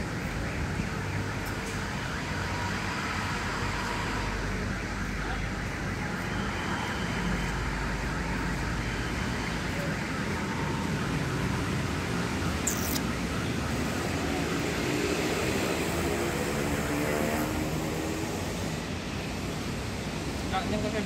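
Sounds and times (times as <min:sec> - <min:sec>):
distant traffic hum: 0:00.0 - 0:21.0.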